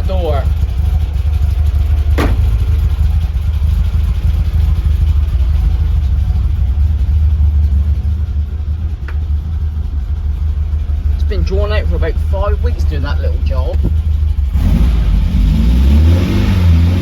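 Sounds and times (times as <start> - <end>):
engine idling with deep rumble: 0.0 - 17.0.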